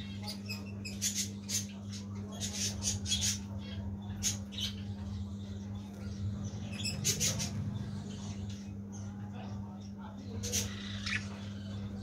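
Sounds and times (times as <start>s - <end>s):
budgerigars chirping and squawking: 0.0s - 12.0s
steady low hum: 0.0s - 12.0s.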